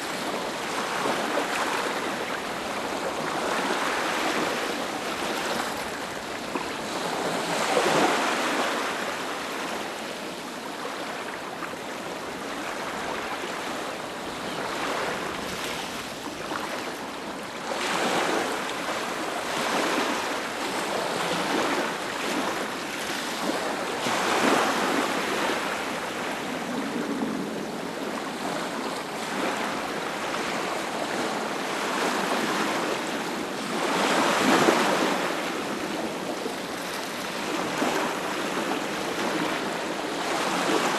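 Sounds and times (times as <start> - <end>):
sea waves breaking on a beach: 0.0 - 40.9.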